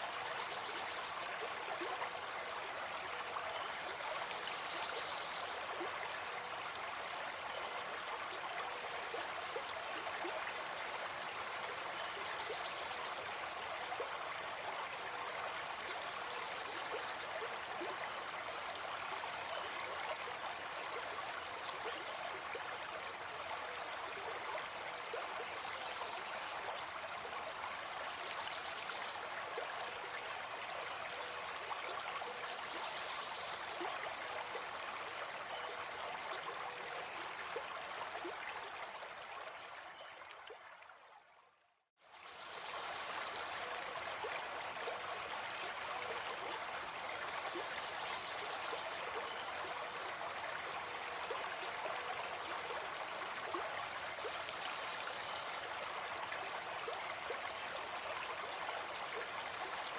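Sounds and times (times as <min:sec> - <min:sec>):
forest stream babbling: 0:00.0 - 0:41.3, 0:42.0 - 0:59.9.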